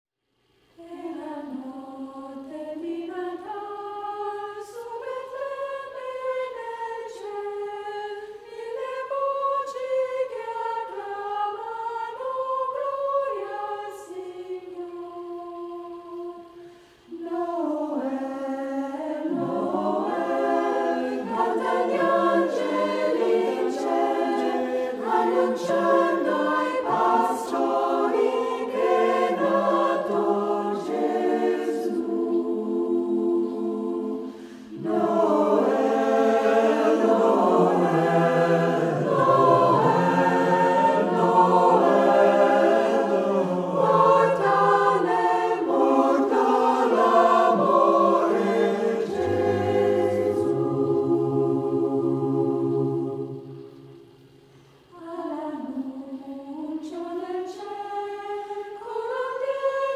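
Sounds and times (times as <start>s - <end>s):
choir singing: 0.7s - 59.9s.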